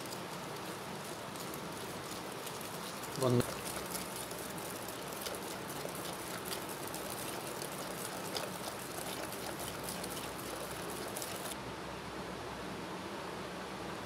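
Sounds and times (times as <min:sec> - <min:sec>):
whisk swishing: 0:00.0 - 0:11.6.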